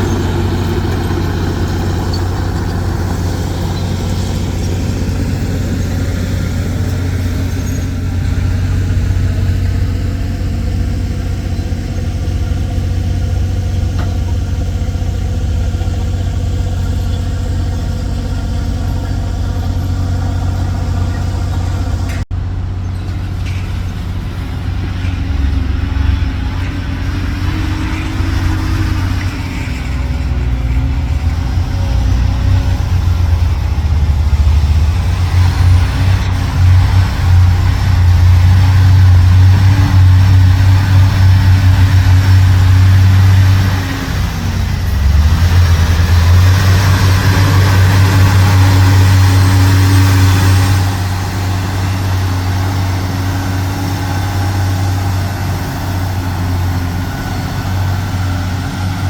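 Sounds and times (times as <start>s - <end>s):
dump truck diesel engine droning: 0.0s - 59.0s.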